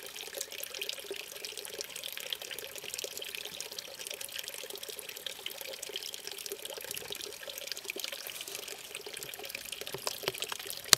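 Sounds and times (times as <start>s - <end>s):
water trickling and dripping: 0.0s - 10.9s.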